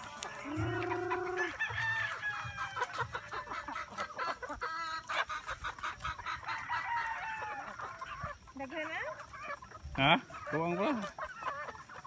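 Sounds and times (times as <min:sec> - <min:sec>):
chickens clucking: 0:00.0 - 0:12.0
chicken squawk: 0:00.4 - 0:12.0.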